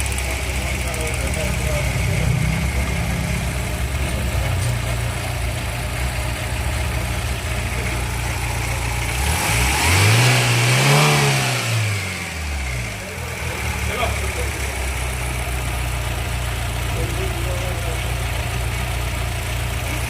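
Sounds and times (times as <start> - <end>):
misfiring car engine idling and revving: 0.0 - 20.0.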